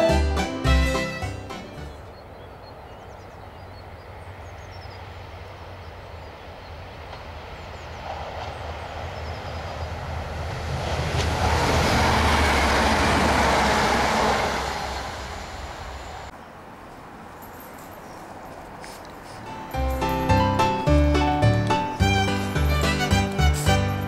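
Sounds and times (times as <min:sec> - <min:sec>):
diesel train passing: 0:00.0 - 0:24.0.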